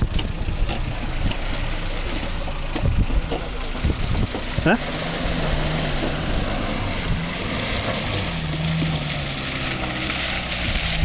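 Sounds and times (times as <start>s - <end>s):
car engine pulling through mud: 0.0s - 11.0s.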